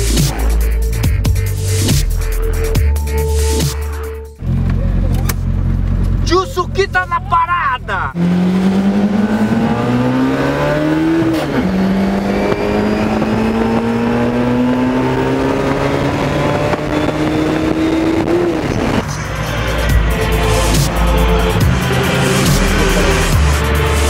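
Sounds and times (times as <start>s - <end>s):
car engine accelerating: 3.4s - 24.0s.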